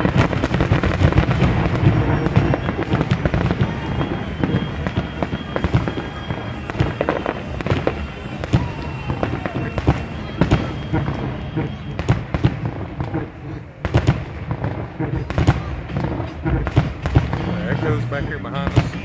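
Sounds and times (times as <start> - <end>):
firework shells bursting: 0.0 - 19.0.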